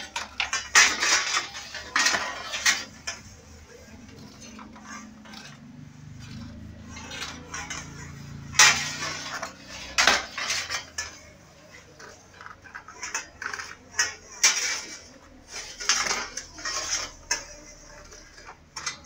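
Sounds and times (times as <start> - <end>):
metal trays clanking: 0.0 - 19.0
trays scraping on oven floor: 0.0 - 19.0.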